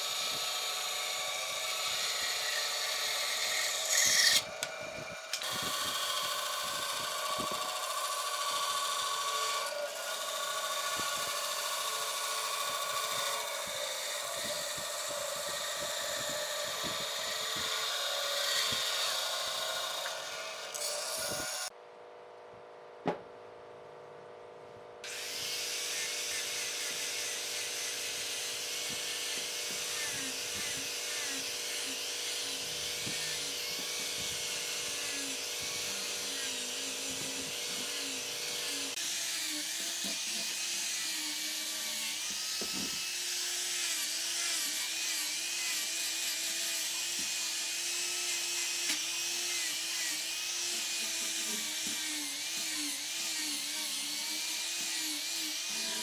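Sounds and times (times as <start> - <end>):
power tool motor whine on wood: 0.0 - 21.7, 25.0 - 56.0.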